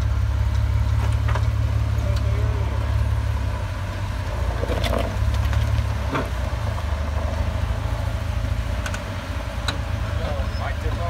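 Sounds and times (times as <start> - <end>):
jeep engine running at low revs: 0.0 - 11.0.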